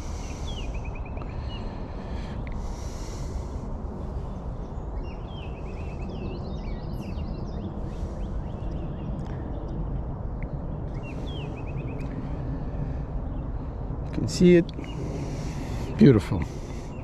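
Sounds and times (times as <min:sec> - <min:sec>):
small birds chirping: 0:00.0 - 0:17.0
wind: 0:00.0 - 0:17.0.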